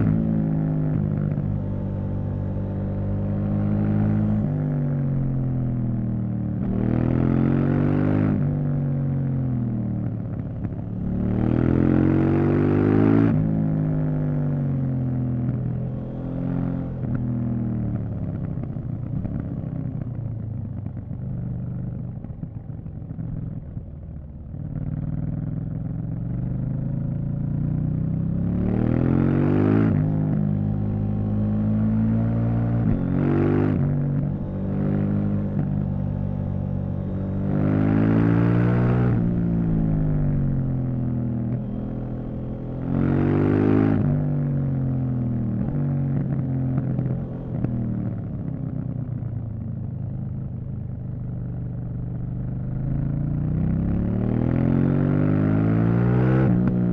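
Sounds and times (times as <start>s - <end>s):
motorcycle engine revving: 0.0s - 23.8s, 24.6s - 56.9s.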